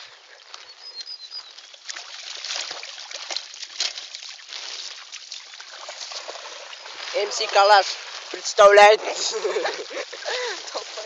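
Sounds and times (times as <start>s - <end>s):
puddle water splashing: 0.0s - 11.0s.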